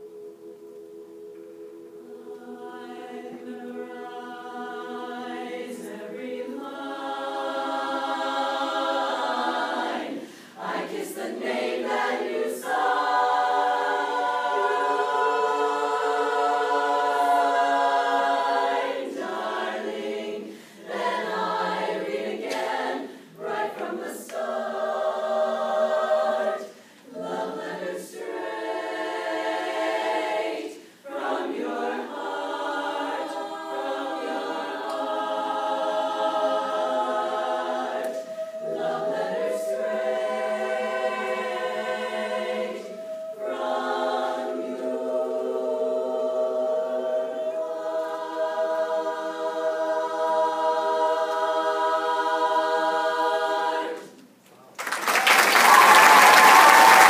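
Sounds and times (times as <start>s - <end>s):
chorus singing a cappella: 0.0s - 54.4s, 55.3s - 57.0s.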